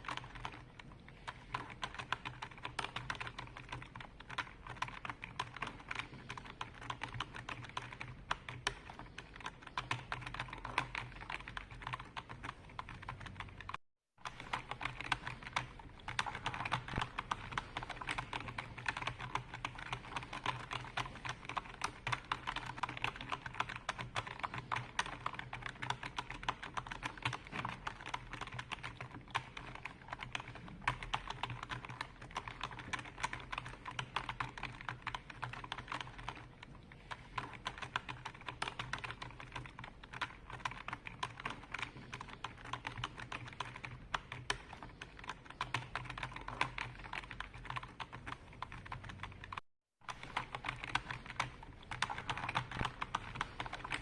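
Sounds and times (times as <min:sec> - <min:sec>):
typing on computer keyboard: 0:00.0 - 0:54.0.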